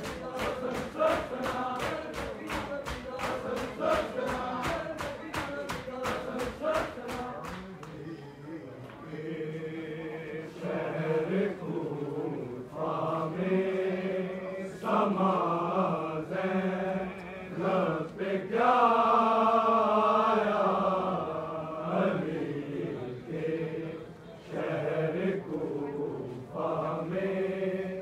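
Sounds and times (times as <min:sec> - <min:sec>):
men chanting: 0:00.0 - 0:07.7, 0:09.1 - 0:28.0.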